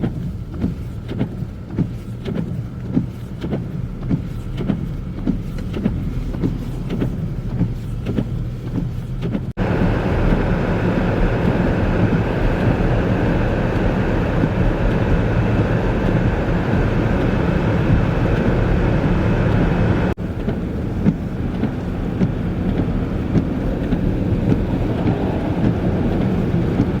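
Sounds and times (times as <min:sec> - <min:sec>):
car engines running: 0:00.0 - 0:27.0
road noise: 0:00.0 - 0:27.0.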